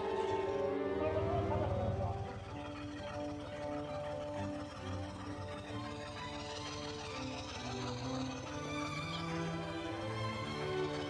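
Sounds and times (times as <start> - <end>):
background music held notes: 0.0 - 11.0.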